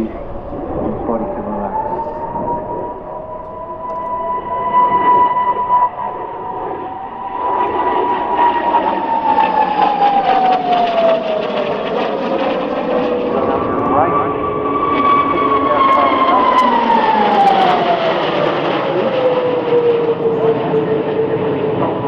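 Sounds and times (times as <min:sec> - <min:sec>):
jet engines whining flying by: 0:00.0 - 0:22.0.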